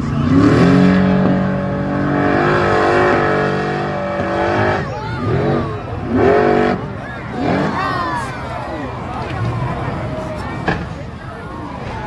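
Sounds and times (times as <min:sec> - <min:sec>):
engine running at high revs: 0:00.0 - 0:12.0.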